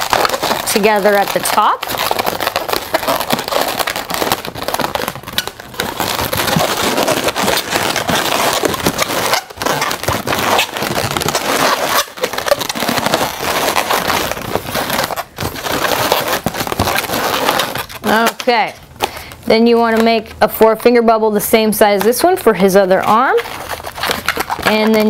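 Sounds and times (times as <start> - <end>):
balloons rubbing and squeaking: 0.0 - 25.0.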